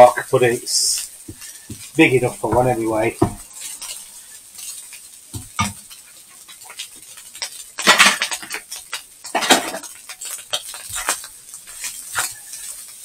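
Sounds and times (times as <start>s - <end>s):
utensil scraping a frying pan: 0.0s - 13.0s.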